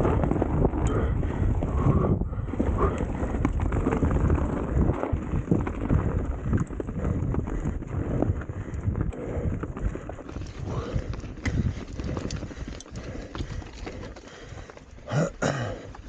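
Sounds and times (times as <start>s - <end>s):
wind buffeting microphone: 0.0s - 14.7s
bike rattling and knocking: 0.0s - 16.0s
low rumble of bike tyres: 0.0s - 16.0s.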